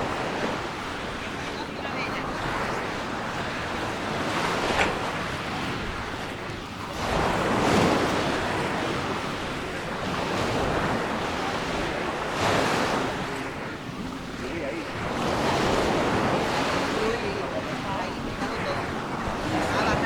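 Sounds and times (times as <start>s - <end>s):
sea waves washing on a beach: 0.0s - 20.0s.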